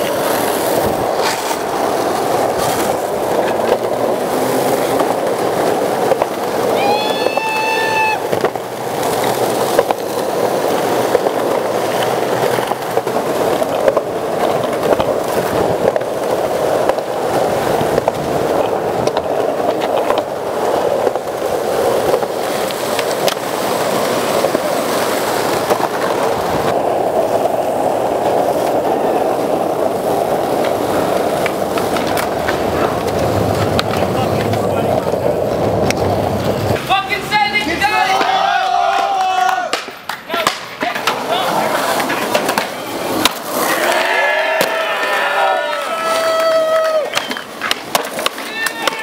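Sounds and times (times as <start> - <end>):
skateboard clicks and knocks: 0.0 - 49.0
skateboard wheels rumbling on asphalt: 0.0 - 49.0.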